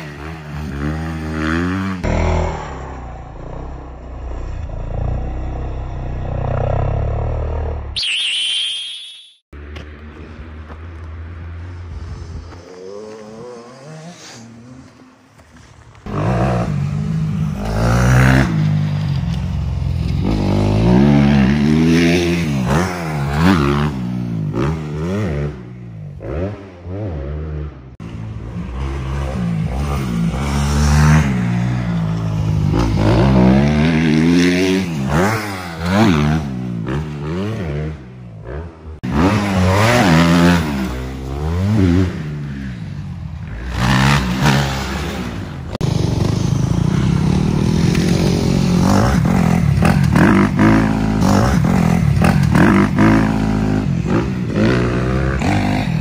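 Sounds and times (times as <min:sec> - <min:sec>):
motocross bike engine revving: 0:00.0 - 0:08.0, 0:16.1 - 0:19.1, 0:19.9 - 0:56.0.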